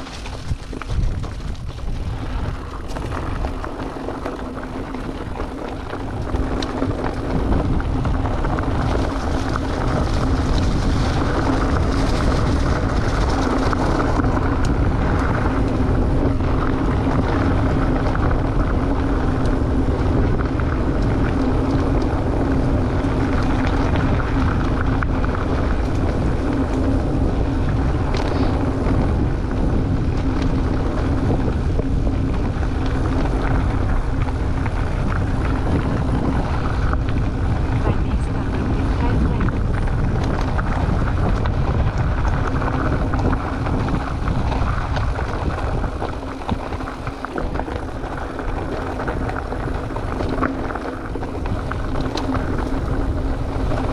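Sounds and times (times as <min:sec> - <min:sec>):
constant low hum: 0:00.0 - 0:53.9
wind and tyre rolling noise: 0:00.0 - 0:53.9.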